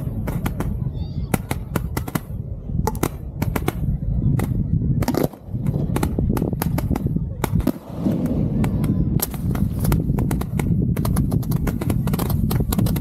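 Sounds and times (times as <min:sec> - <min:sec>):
fireworks shots and bangs: 0:00.0 - 0:13.0.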